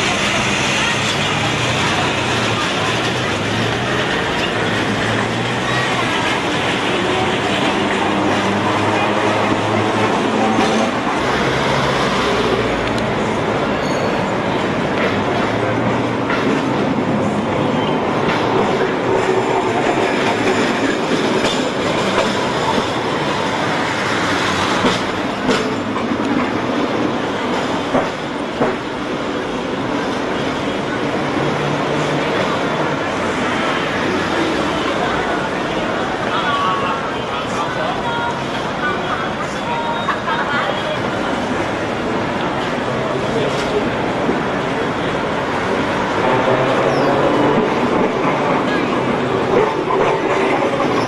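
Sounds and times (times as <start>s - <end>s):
street traffic: 0.0s - 51.0s
tram rolling past humming: 0.0s - 51.0s.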